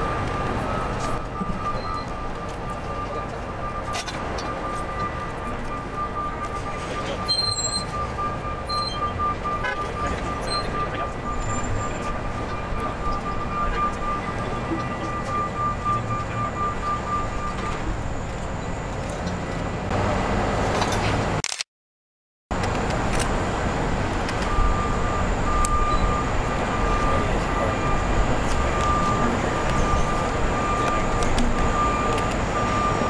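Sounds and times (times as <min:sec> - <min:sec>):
reversing alarm beeping: 0:00.0 - 0:19.0, 0:24.4 - 0:33.0
heavy machinery engines running: 0:00.0 - 0:21.4, 0:22.5 - 0:33.0.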